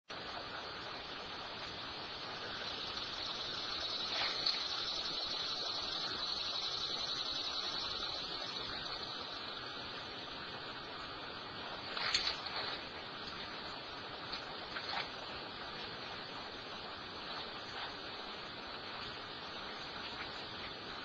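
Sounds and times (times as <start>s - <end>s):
outdoor background hiss: 0.1s - 21.0s.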